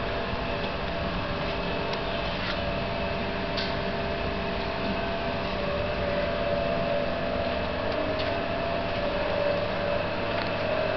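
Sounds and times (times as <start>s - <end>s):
faint constant tone: 0.0s - 10.9s
mechanical hum: 0.0s - 10.9s.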